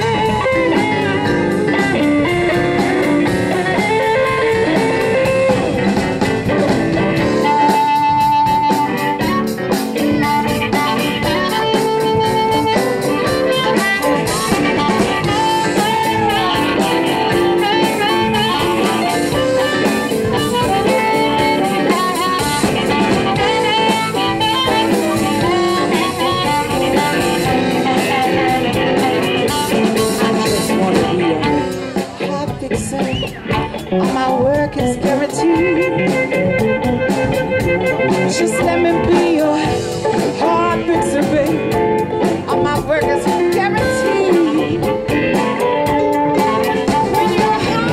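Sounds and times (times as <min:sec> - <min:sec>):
harmonica lead: 0:00.0 - 0:32.3, 0:33.0 - 0:47.9
drum kit: 0:00.0 - 0:47.9
electric guitar: 0:00.0 - 0:47.9.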